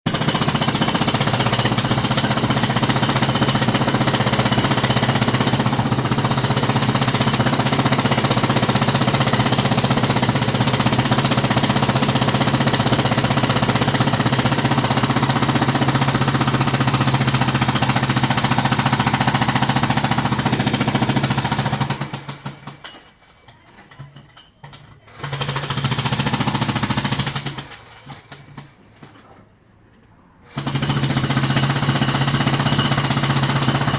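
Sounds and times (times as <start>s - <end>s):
jackhammer hammering: 0.1s - 23.1s, 24.7s - 29.1s, 30.5s - 33.9s.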